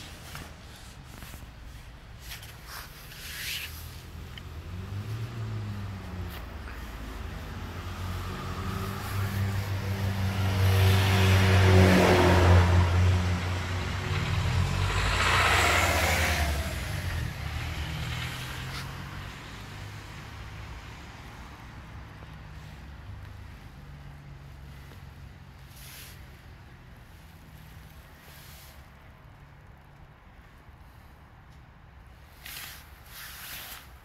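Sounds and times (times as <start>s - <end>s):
vehicles passing on road: 0.0s - 34.0s.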